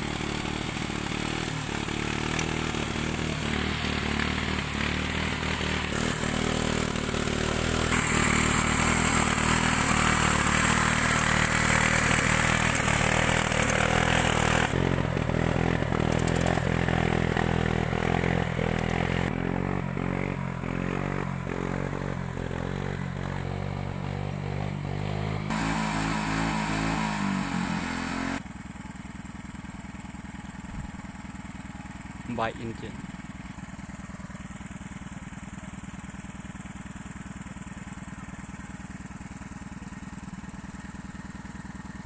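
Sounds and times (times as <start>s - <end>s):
tiller engine running: 0.0s - 42.0s.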